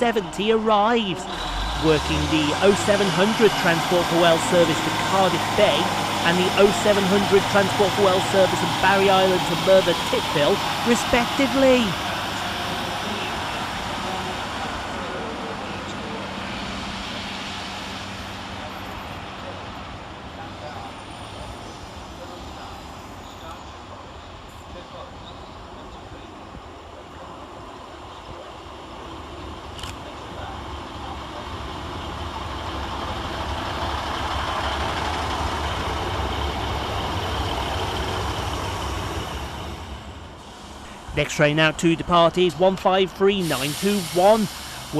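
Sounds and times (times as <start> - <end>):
diesel train engine drone: 0.0 - 44.9
rail and wheel noise: 0.0 - 44.9.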